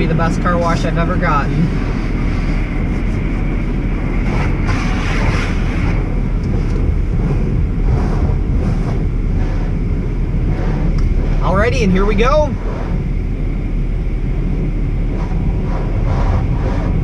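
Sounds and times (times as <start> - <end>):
car engine idling: 0.0 - 17.0
car wash machinery running: 0.0 - 17.0.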